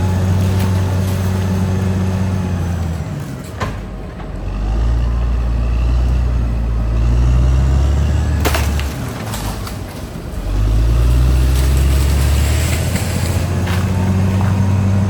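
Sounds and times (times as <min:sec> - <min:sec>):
bulldozer diesel engine under load: 0:00.0 - 0:15.0.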